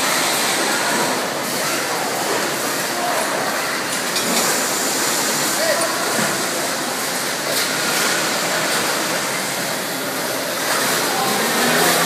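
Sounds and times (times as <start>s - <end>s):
assembly line machinery din: 0.0s - 12.0s.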